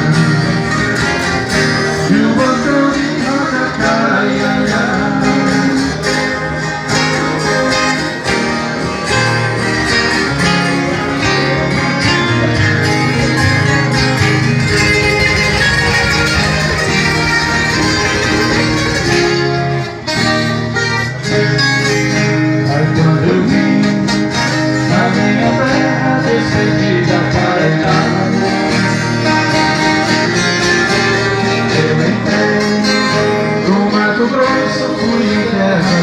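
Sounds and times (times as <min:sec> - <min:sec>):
country music on guitars: 0:00.0 - 0:36.0.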